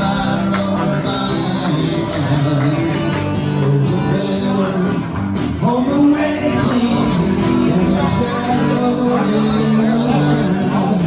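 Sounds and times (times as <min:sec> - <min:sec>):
guitar: 0:00.0 - 0:11.0
person singing: 0:00.0 - 0:11.0.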